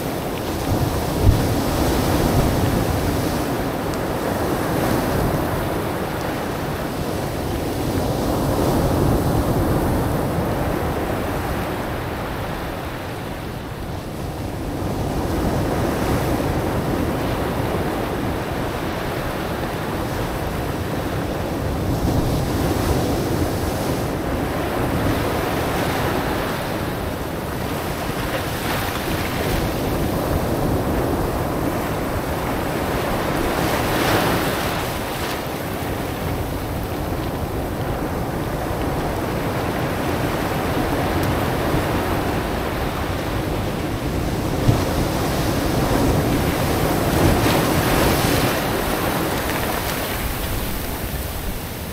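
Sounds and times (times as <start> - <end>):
ocean surf breaking on beach: 0.0 - 51.9
wind rumbling on microphone: 0.0 - 51.9.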